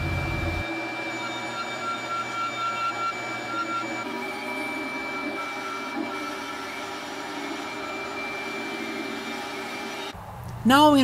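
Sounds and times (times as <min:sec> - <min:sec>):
bandsaw whining: 0:00.0 - 0:10.2.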